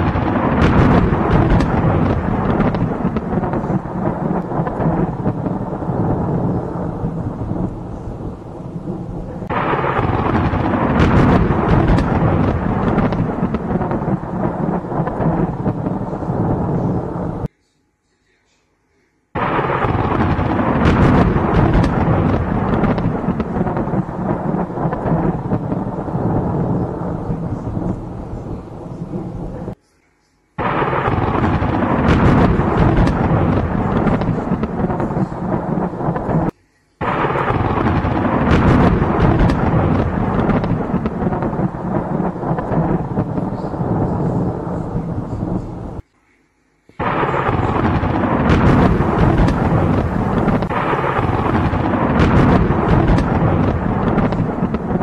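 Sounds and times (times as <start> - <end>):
thunder rumbling: 0.0 - 17.5, 19.4 - 29.8, 30.6 - 46.0, 47.0 - 55.0.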